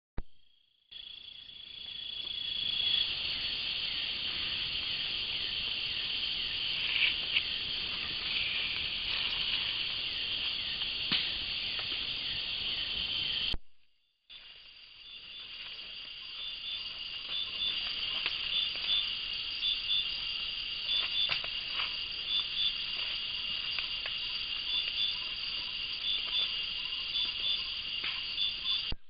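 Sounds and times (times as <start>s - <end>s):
shrill chorus of night insects: 0.4s - 13.6s, 14.3s - 29.0s.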